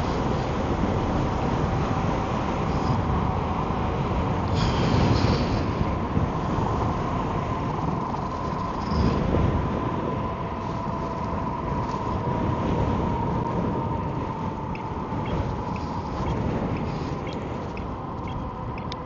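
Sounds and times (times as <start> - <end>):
steady high whine: 0.0 - 19.0
wind buffeting microphone: 0.0 - 19.0.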